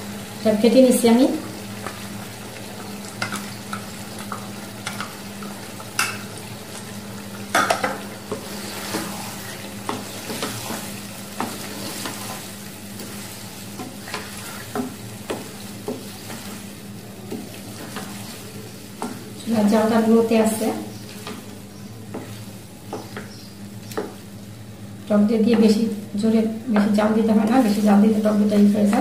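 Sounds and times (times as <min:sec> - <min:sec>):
food sizzling: 0:00.0 - 0:29.0.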